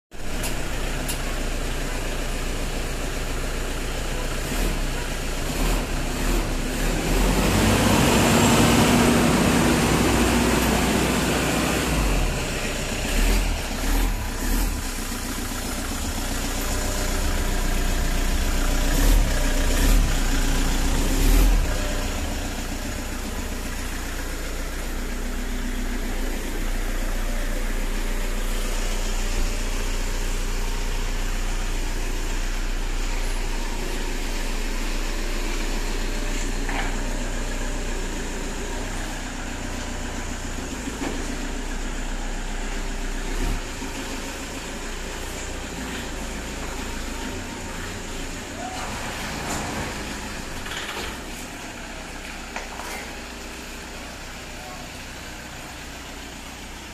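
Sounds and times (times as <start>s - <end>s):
diesel engine idling: 0.1s - 56.9s.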